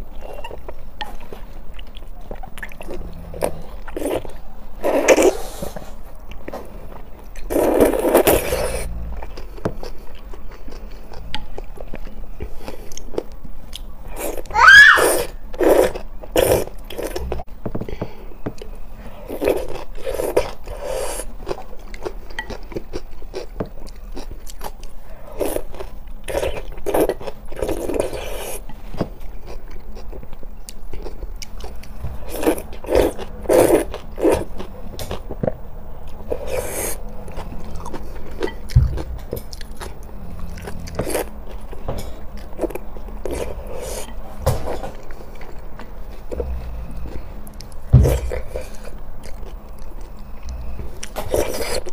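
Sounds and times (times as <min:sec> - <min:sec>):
slurping and chewing noodles: 0:00.2 - 0:17.5, 0:19.0 - 0:51.9.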